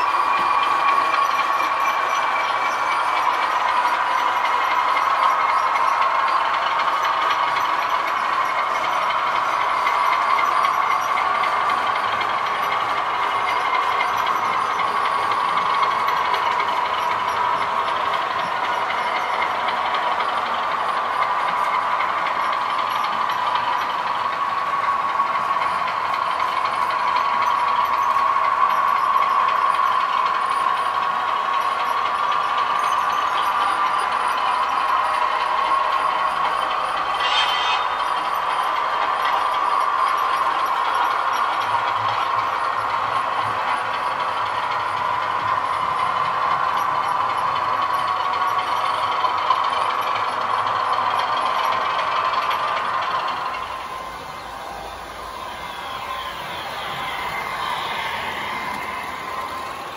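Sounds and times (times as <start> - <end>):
diesel engine sound from small speaker: 0.0 - 59.9.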